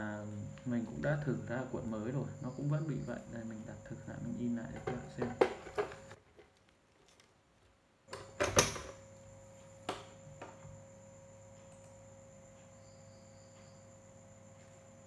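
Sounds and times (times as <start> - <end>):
faint hum with thin whine: 0.0 - 15.0.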